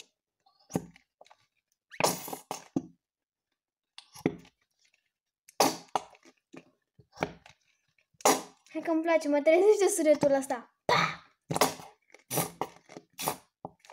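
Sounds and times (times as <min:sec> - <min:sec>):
glue bottle sputtering and squelching: 0:00.0 - 0:03.0, 0:04.0 - 0:08.8, 0:10.0 - 0:13.9.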